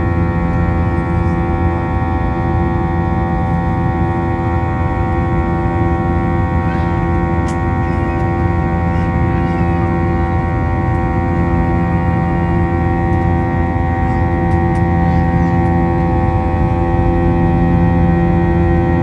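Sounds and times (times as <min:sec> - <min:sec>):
jet engine deep rumble in cabin: 0:00.0 - 0:19.0.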